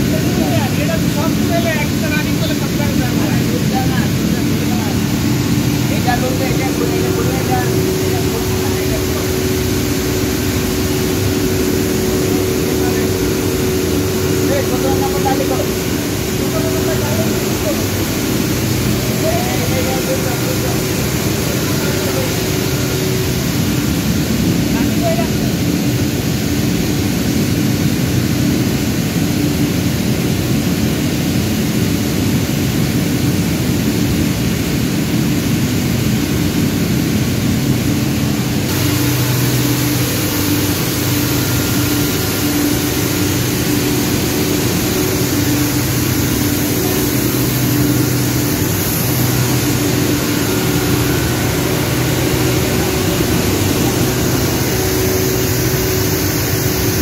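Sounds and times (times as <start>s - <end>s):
air compressor humming: 0.0s - 57.0s.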